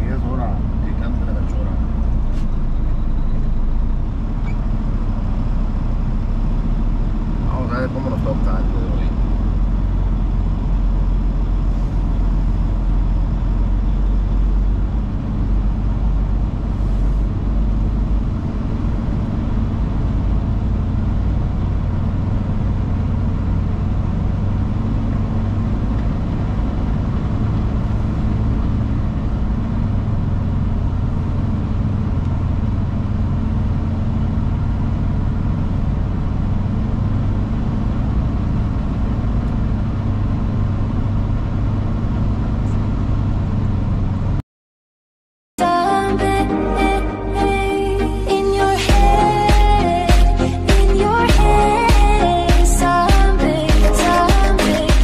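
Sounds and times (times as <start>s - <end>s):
truck diesel engine drone: 0.0s - 44.4s, 45.6s - 55.0s.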